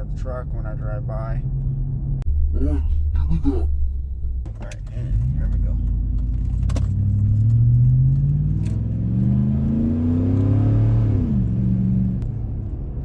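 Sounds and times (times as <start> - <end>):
truck engine accelerating: 0.0 - 2.2, 4.5 - 13.0.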